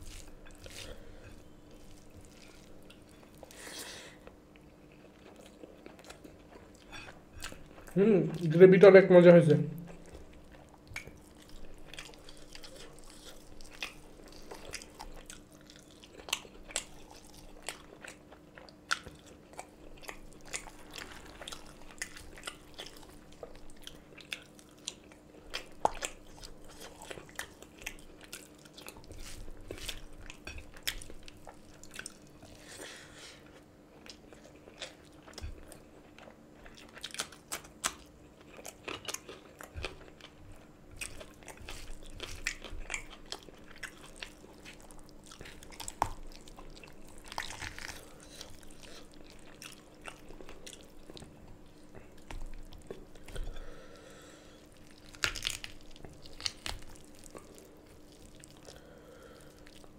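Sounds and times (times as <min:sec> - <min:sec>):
man chewing and eating: 0:00.0 - 0:08.6, 0:09.7 - 0:59.9.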